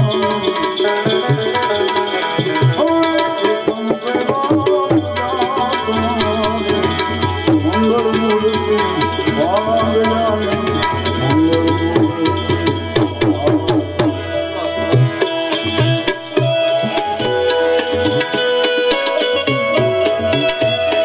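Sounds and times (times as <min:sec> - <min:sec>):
gliding melodic instrument: 0:00.0 - 0:21.0
tabla rhythm: 0:00.0 - 0:21.0.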